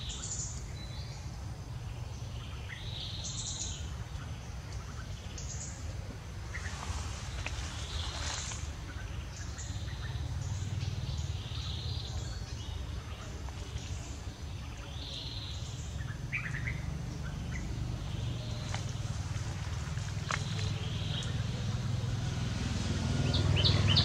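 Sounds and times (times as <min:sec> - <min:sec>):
birds chirping: 0:00.0 - 0:24.0
steady low rumble: 0:00.0 - 0:24.0.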